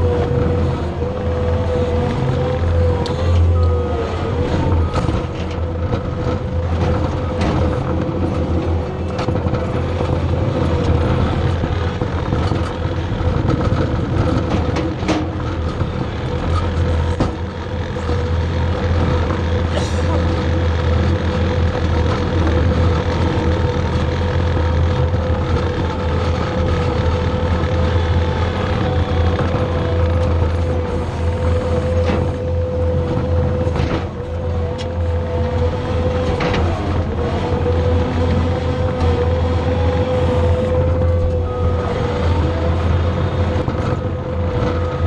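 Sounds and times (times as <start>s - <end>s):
diesel engine droning with whine: 0.0s - 45.0s.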